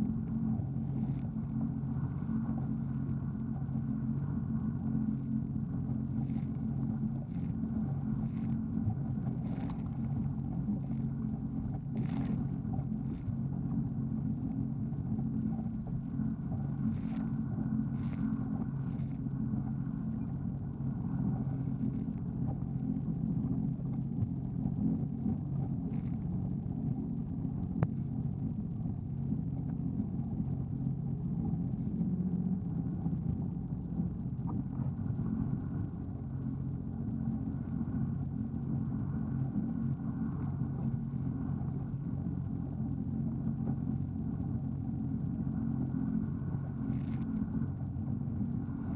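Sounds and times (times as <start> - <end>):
jet ski engine running: 0.0 - 48.9.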